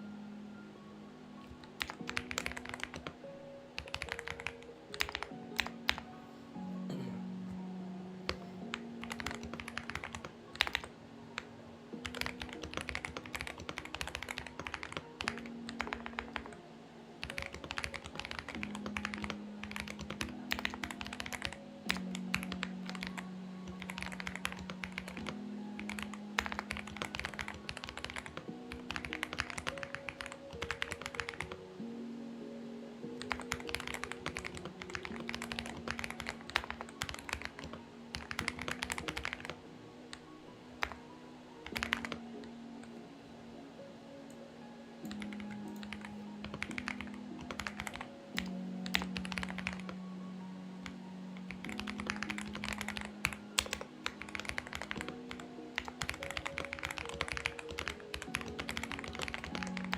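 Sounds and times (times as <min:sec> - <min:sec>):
soft background music: 0:00.0 - 0:59.9
mechanical keyboard typing: 0:01.5 - 0:06.1, 0:08.3 - 0:16.6, 0:17.2 - 0:31.6, 0:33.2 - 0:40.2, 0:40.8 - 0:41.0, 0:41.6 - 0:42.9, 0:45.0 - 0:50.0, 0:50.8 - 0:59.9.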